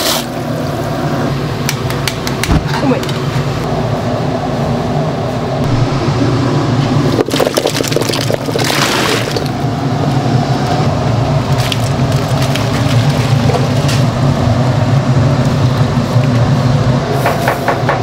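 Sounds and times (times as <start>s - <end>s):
exhaust fan: 0.0s - 18.0s
gas burner roaring: 0.0s - 18.0s.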